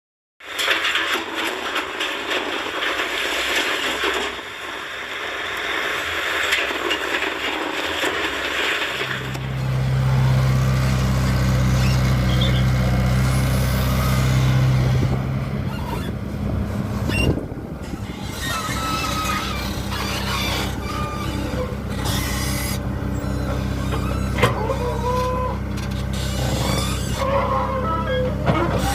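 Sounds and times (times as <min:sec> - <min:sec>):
excavator clattering: 0:00.4 - 0:04.7, 0:06.1 - 0:28.9
diesel engine humming: 0:04.0 - 0:28.9.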